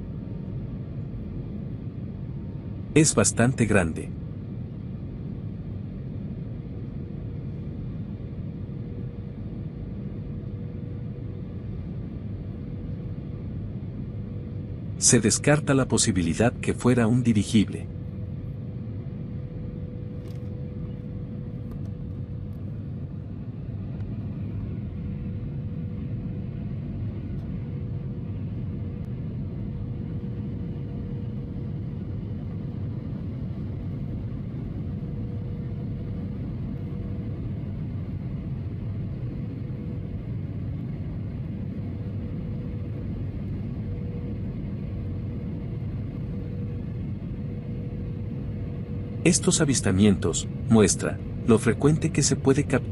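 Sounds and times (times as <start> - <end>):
faint steady hum: 0.0 - 52.9
jet airliner cabin rumble: 0.0 - 52.9.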